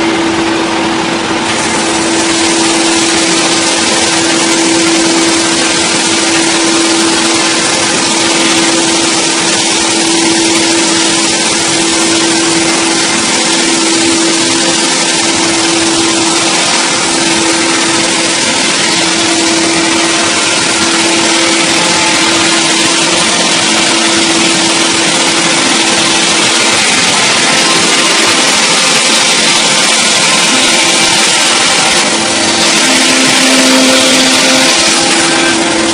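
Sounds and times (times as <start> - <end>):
chainsaw engine running: 0.0 - 35.9.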